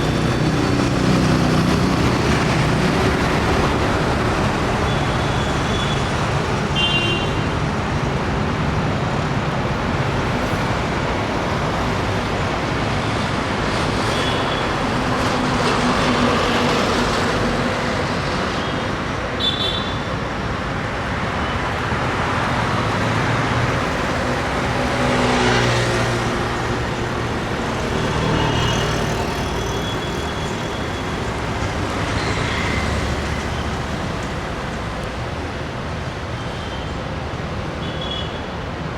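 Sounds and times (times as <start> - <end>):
city road traffic: 0.0 - 38.9.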